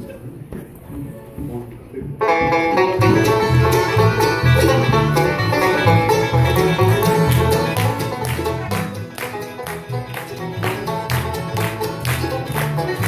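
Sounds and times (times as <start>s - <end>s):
acoustic guitar: 1.0s - 13.0s
upright bass plucking: 2.0s - 13.0s
banjo picking: 2.2s - 13.0s
fiddle: 2.2s - 13.0s
mandolin: 2.2s - 13.0s.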